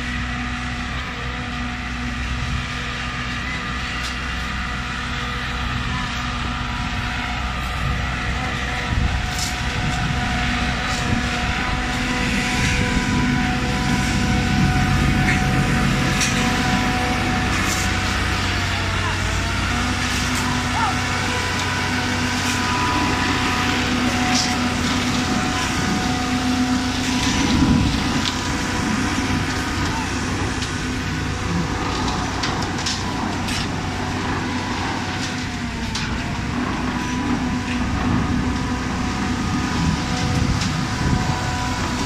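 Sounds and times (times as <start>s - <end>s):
concrete mixer pump droning: 0.0s - 42.0s.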